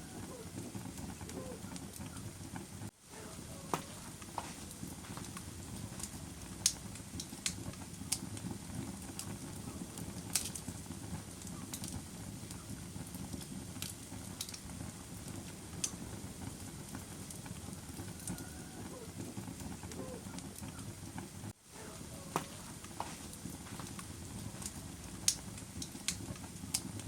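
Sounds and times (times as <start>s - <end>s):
fire crackling: 0.0s - 27.0s.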